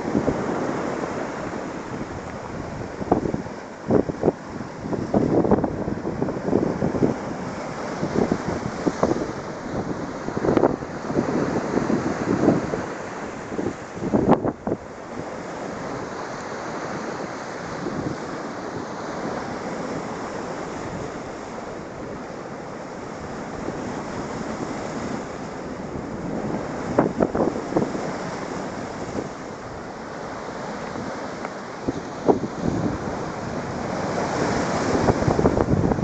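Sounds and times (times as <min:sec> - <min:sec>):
wind buffeting microphone: 0:00.0 - 0:16.4, 0:17.6 - 0:22.2, 0:23.0 - 0:36.0
sea waves breaking: 0:00.0 - 0:36.0.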